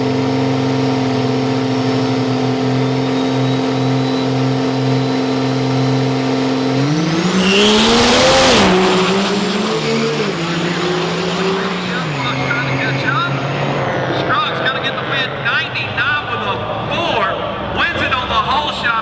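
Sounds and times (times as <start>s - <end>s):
diesel truck engines revving: 0.0s - 19.0s
high turbo whine: 0.0s - 19.0s.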